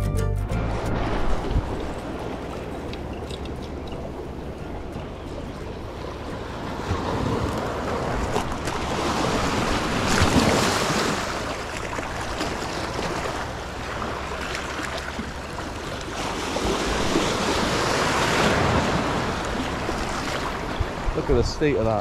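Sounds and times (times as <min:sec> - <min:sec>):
sea waves washing over rocks: 0:00.7 - 0:22.0.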